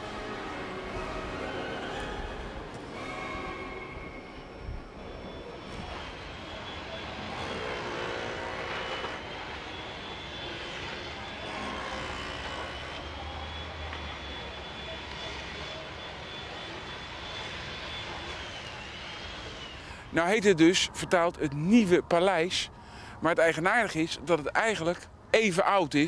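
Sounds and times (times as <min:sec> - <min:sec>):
engine drone: 0:00.0 - 0:23.2
thin high whine: 0:00.0 - 0:24.2.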